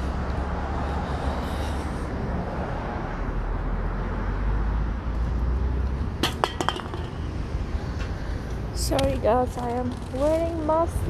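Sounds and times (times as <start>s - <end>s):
passing cars rumble: 0.0s - 11.0s.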